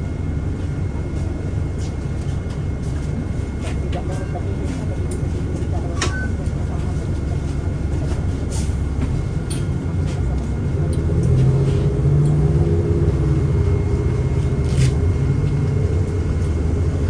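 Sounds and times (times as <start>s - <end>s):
bus engine and road rumble: 0.0s - 17.0s
engine drone: 0.0s - 17.0s.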